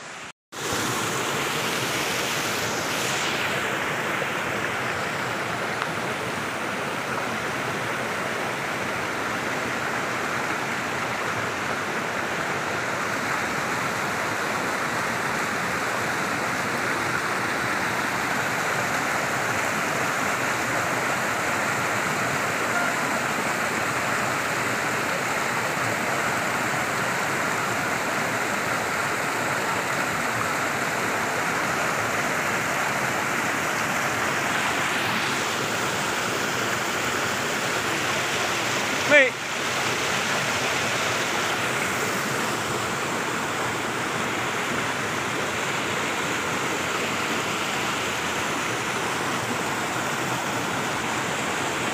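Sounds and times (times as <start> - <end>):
stream water rushing over rocks: 0.0 - 51.9.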